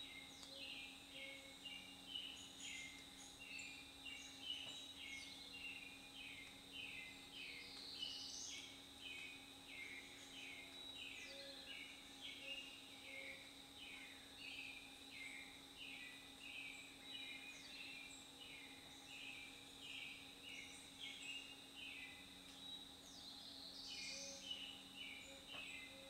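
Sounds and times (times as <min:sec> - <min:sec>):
woodland birdsong: 0:00.0 - 0:26.0.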